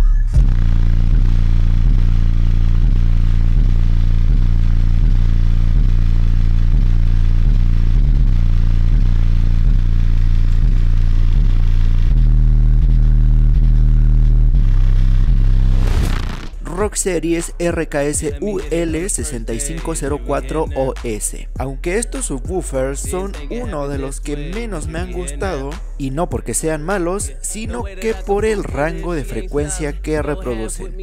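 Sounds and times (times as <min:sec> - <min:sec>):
loud deep subwoofer bass notes: 0:00.0 - 0:31.0.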